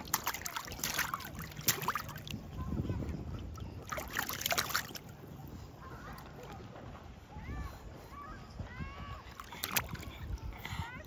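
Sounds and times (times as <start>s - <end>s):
water splashing and lapping: 0.0s - 11.0s
distant children's voices: 0.3s - 11.0s.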